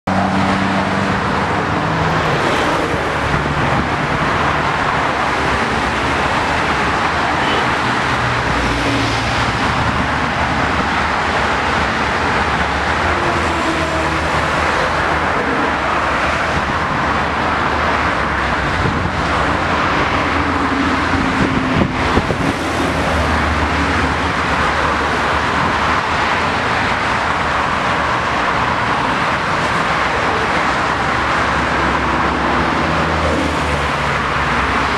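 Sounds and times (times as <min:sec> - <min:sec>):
highway traffic roar: 0:00.0 - 0:34.9.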